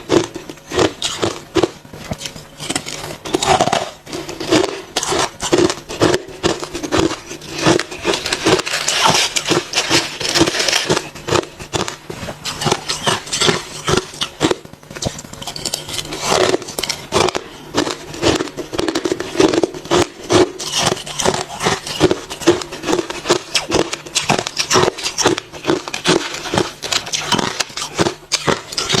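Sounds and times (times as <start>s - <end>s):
chewing crunchy ice: 0.0s - 29.0s.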